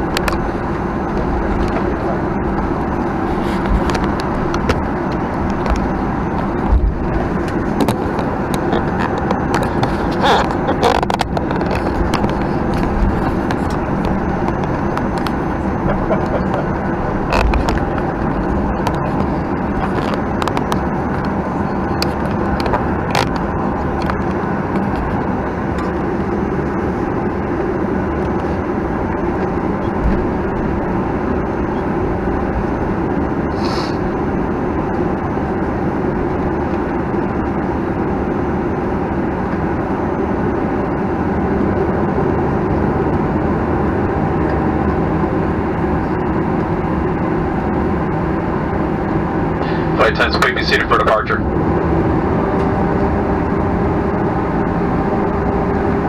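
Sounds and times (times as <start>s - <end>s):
jet engines idling: 0.0s - 56.0s
wheels rumbling on taxiway: 0.0s - 56.0s.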